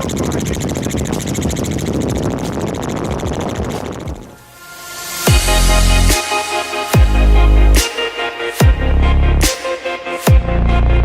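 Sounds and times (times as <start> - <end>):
helicopter rotor chopping: 0.0 - 9.7.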